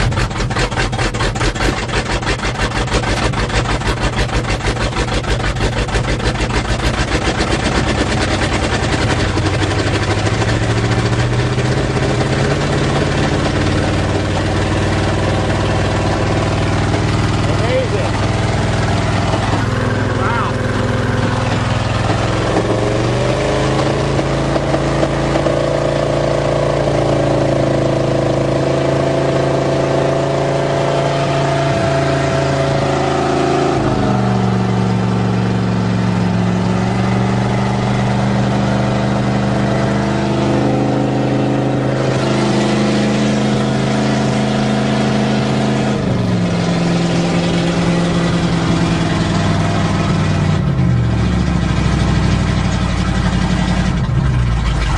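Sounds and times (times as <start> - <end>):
truck engine running on choke: 0.0 - 54.9.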